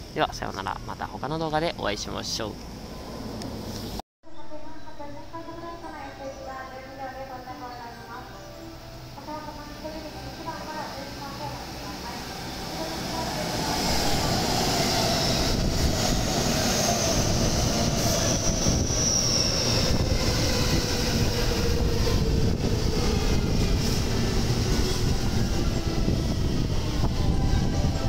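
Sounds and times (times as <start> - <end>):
wheels rumbling on rail: 0.0 - 4.0, 8.7 - 28.0.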